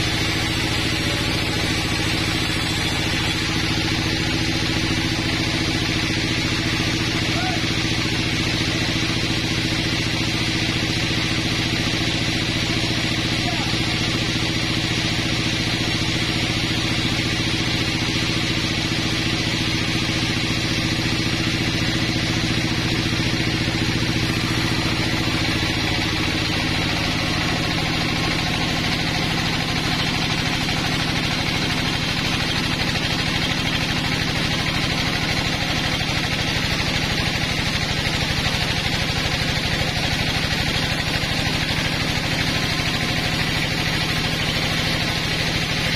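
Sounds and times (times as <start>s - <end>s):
band saw cutting log: 0.0s - 45.9s.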